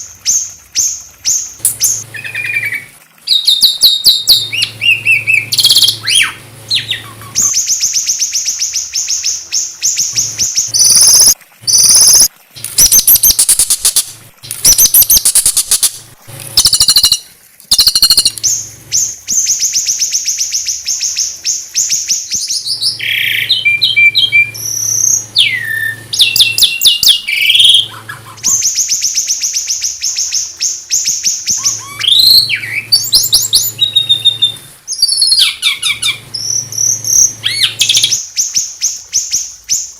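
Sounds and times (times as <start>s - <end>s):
songbird trilling: 1.3s - 14.0s, 14.6s - 15.9s, 16.6s - 39.9s
bird chips and falling whistles: 1.3s - 16.0s, 16.6s - 39.9s.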